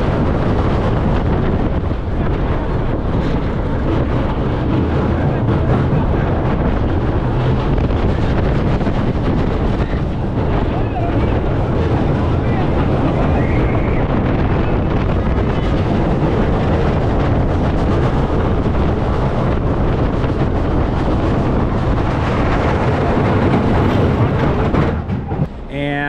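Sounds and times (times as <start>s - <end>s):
wind rushing over microphone: 0.0s - 25.7s
roller coaster train on track: 0.0s - 26.0s.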